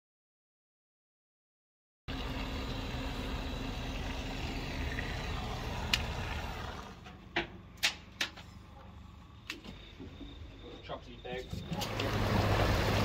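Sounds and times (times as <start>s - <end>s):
engine drone: 2.1s - 13.0s.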